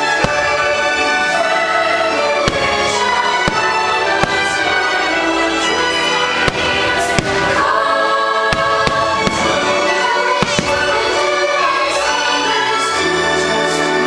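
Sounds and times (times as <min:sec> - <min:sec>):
fireworks bursting: 0:00.0 - 0:12.9
choir singing: 0:00.0 - 0:14.0
orchestral show music: 0:00.0 - 0:14.0.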